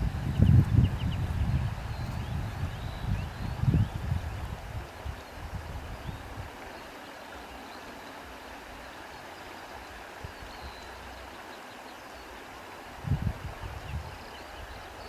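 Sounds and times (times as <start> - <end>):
soft wind blowing: 0.0 - 15.0.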